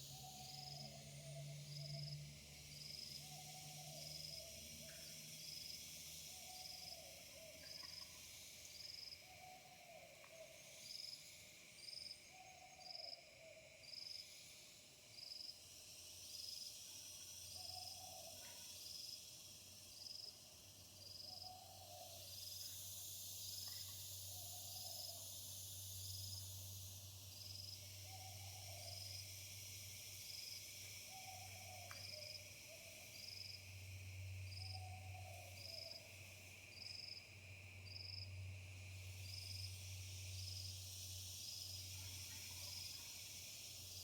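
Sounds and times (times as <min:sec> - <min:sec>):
high insect chirp: 0:00.0 - 0:44.0.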